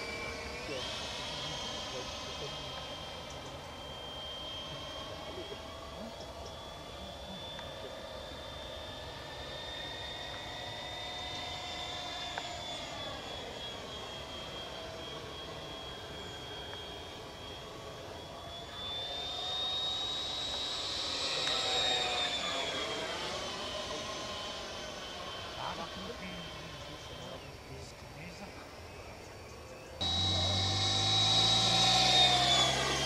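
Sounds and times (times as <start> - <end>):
model jet ducted fan whining: 0.0 - 33.0.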